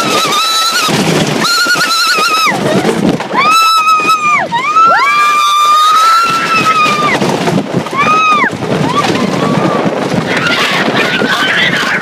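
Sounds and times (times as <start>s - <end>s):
riders screaming: 0.0s - 12.0s
roller coaster rushing: 0.0s - 12.0s.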